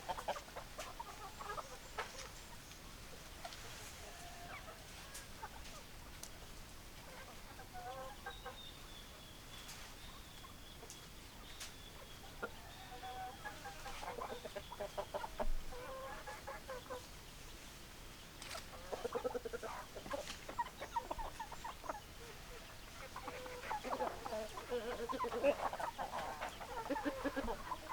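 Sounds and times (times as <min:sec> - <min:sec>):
hens clucking: 0:00.0 - 0:08.8, 0:09.7 - 0:17.2, 0:18.4 - 0:27.9.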